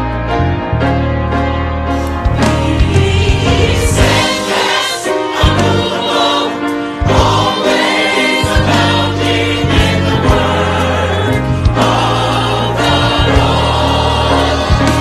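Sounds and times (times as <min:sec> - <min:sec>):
bass: 0:00.0 - 0:15.0
drums: 0:02.0 - 0:15.0
gospel choir singing: 0:02.2 - 0:15.0.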